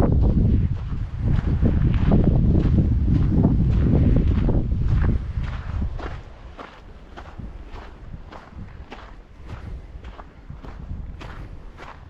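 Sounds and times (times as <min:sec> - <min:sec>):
wind buffeting microphone: 0:00.0 - 0:12.0
footsteps crunching on dirt: 0:00.2 - 0:12.0.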